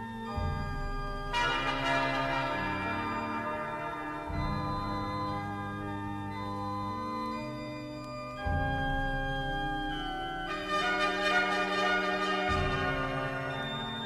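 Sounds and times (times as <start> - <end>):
sustained organ chords: 0.0 - 14.0.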